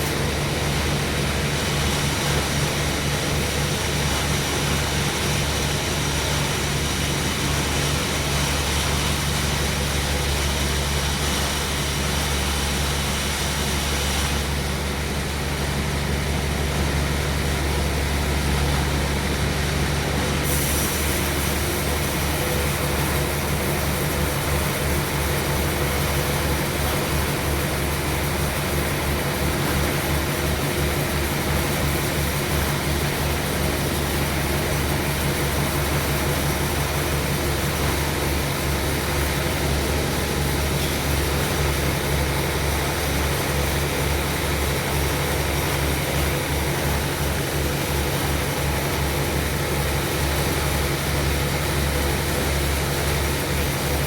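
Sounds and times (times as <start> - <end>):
low engine drone: 0.0 - 54.0
sawmill machinery cutting log: 0.0 - 54.0.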